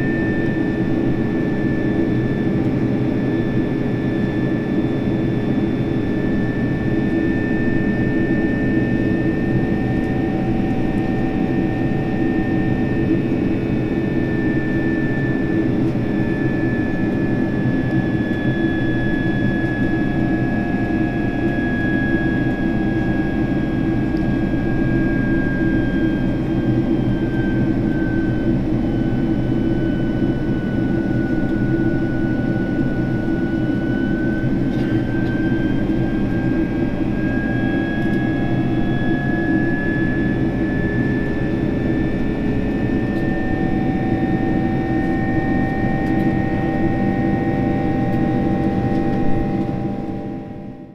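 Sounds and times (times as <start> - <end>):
high engine whine: 0.0 - 50.9.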